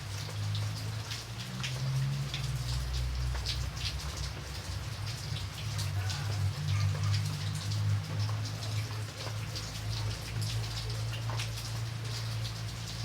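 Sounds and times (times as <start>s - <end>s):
rain drops striking a surface: 0.0s - 13.0s.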